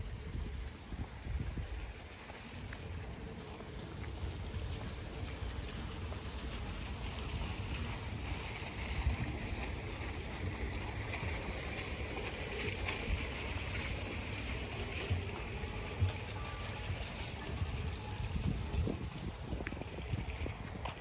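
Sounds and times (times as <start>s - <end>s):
fountain water splashing: 0.0s - 21.0s
wind rumble on microphone: 0.0s - 21.0s.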